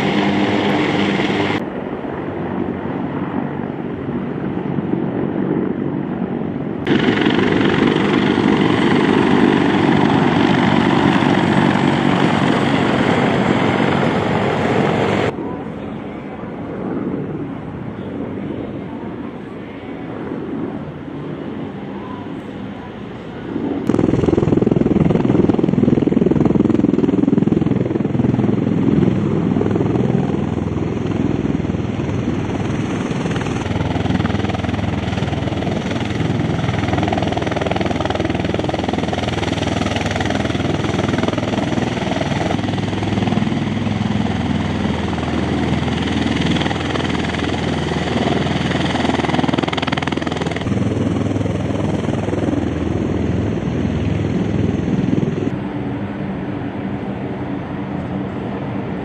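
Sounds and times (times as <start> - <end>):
aircraft engines and propellers droning: 0.0 - 59.0.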